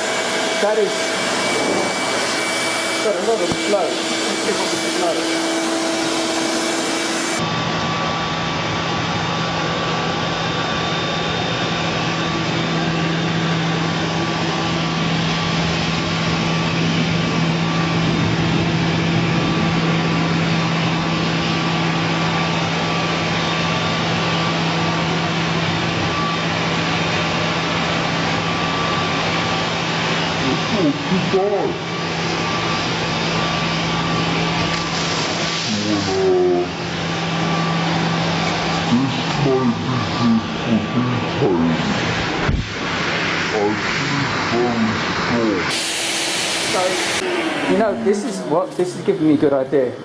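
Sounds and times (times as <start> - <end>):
shop vacuum motor humming: 0.0 - 49.9.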